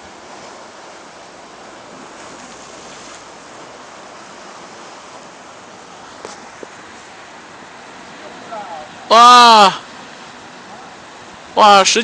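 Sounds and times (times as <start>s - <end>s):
surf washing against rocky shore: 0.0s - 12.0s.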